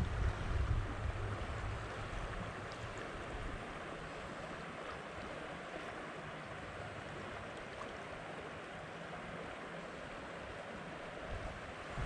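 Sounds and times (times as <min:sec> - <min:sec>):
creek water rushing over stones: 0:00.0 - 0:12.0.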